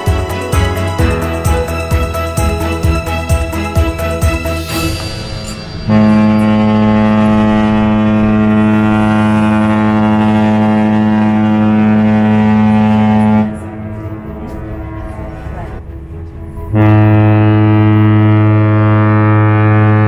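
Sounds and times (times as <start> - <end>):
ship's horn low blast: 0.0 - 20.0.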